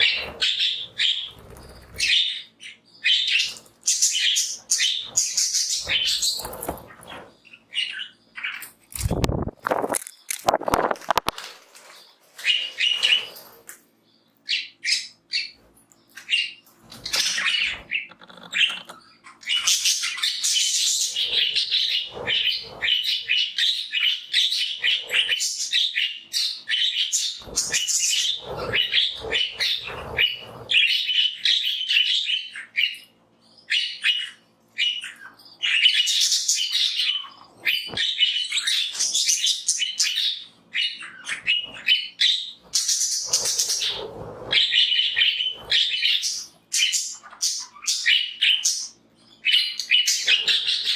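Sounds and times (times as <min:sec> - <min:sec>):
budgerigars chirping and warbling: 0:00.0 - 0:09.9, 0:12.0 - 0:50.9.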